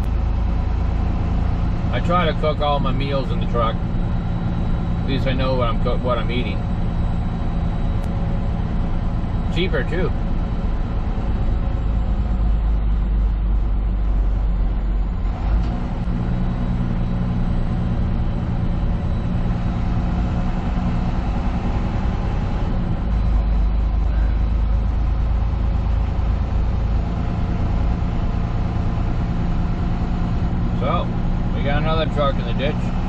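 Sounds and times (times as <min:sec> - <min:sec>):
truck engine and tyre drone: 0:00.0 - 0:33.0.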